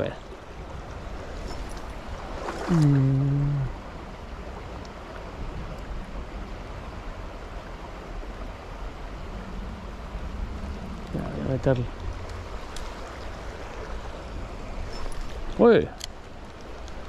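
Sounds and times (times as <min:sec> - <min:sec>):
shallow river rushing: 0:00.0 - 0:17.0.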